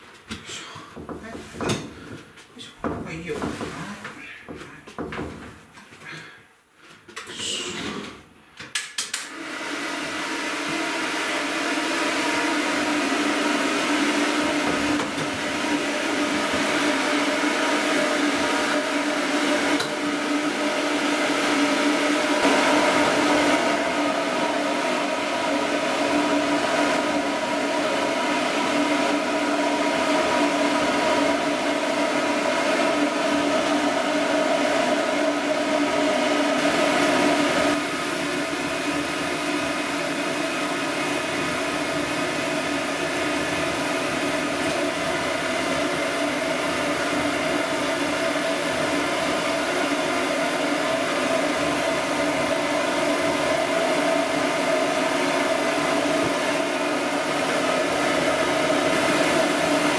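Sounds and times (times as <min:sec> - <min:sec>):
blow dryer rushing air: 0:09.1 - 0:59.9.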